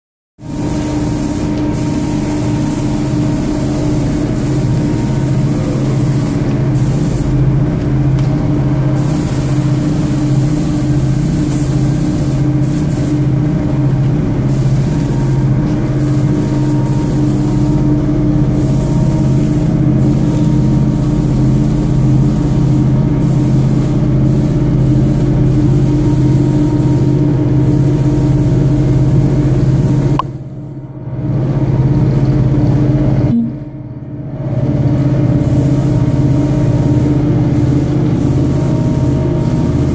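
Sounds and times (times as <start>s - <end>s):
washing machine motor hum: 0.4s - 39.9s.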